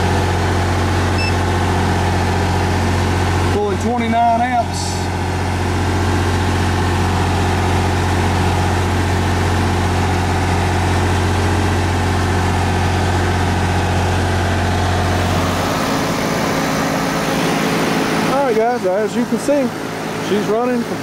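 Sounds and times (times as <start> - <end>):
air conditioner condenser running: 0.0 - 21.0
diesel engine running: 0.0 - 21.0.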